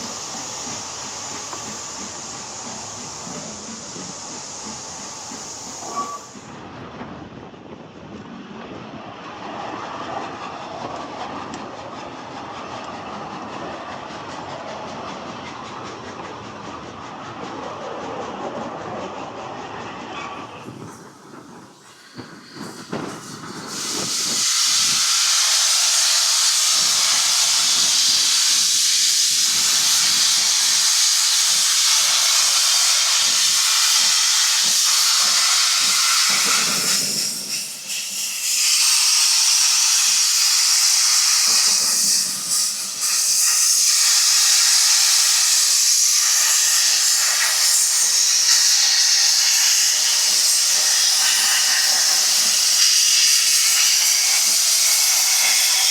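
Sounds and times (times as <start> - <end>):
steam locomotive hissing: 0.0 - 6.8, 9.4 - 55.9.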